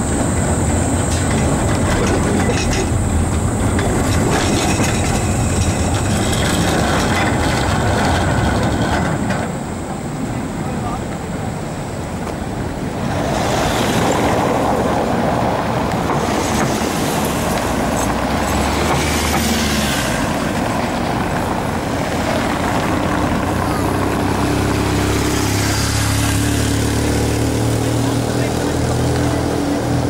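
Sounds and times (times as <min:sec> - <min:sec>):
cars driving on cobbles: 0:00.0 - 0:30.0
steady engine hum: 0:00.0 - 0:30.0.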